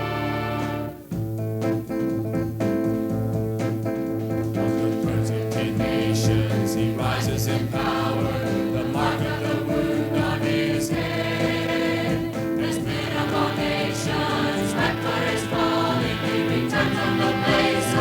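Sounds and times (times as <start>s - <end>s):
choir singing with instruments: 0.0s - 1.0s, 4.5s - 18.0s.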